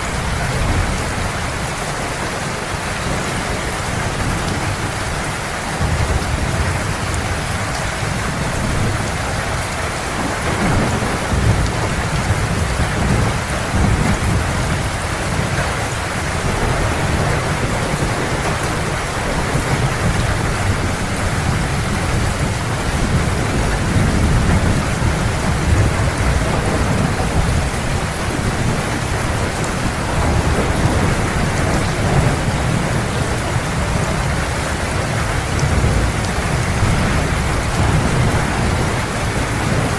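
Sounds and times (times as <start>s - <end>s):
heavy rain falling: 0.0s - 39.9s
low thunder rumbling: 3.0s - 39.9s.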